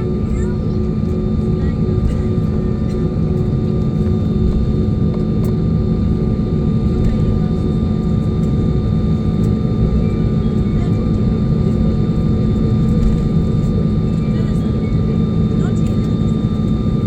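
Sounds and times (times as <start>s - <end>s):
jet engine rumble in cabin: 0.0s - 17.0s.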